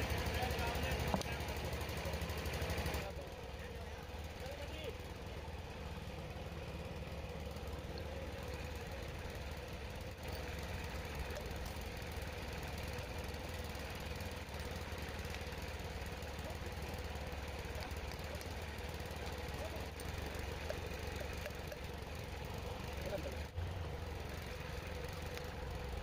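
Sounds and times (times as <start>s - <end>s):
engine hum: 0.0s - 26.0s.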